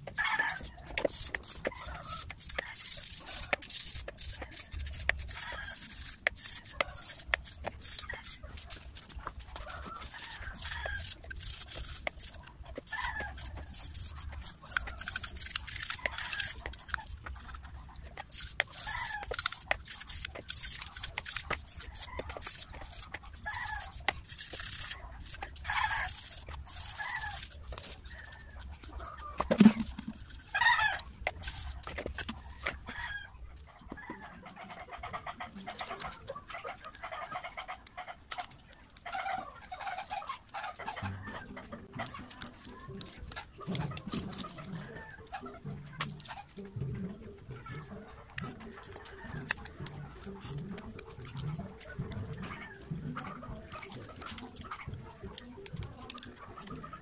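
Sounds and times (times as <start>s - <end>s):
toothbrush scrubbing metal parts: 0.0s - 33.0s, 41.9s - 46.8s, 47.4s - 57.0s.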